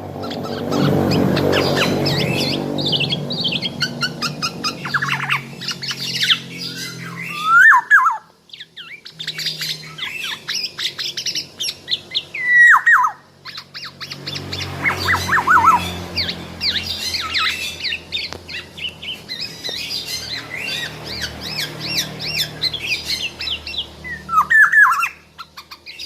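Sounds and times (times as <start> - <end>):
bird chirping and whistling: 0.2 - 26.0
bird squawking calls: 0.2 - 26.0.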